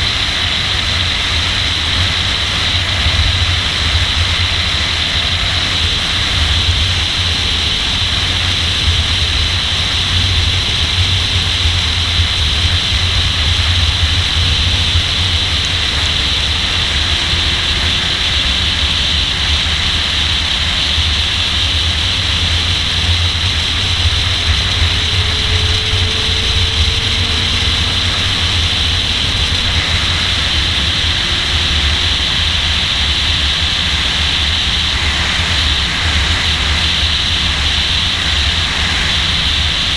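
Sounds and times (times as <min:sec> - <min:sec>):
faint car engine: 0:00.0 - 0:39.9
wind rushing and buffeting: 0:00.0 - 0:39.9.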